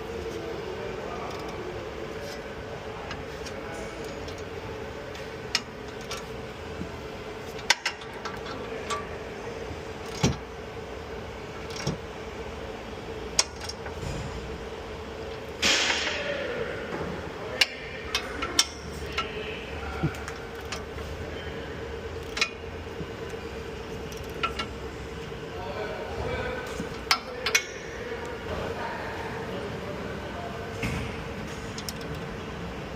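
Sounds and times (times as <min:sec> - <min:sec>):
steady hum: 0:00.0 - 0:32.9.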